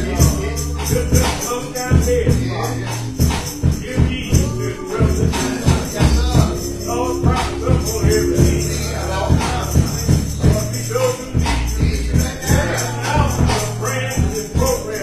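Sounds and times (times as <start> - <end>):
keyboard chords: 0.0 - 15.0
people singing: 0.0 - 15.0
steady drum beat: 0.0 - 15.0
tambourine jingling: 0.0 - 15.0.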